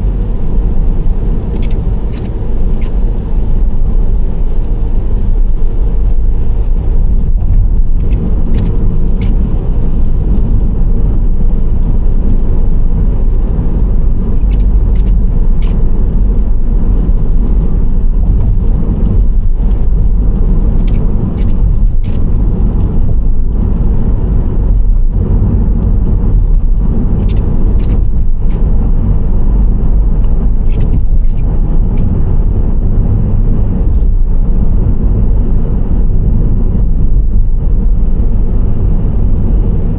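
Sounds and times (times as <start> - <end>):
minivan road and engine rumble: 0.0 - 39.9.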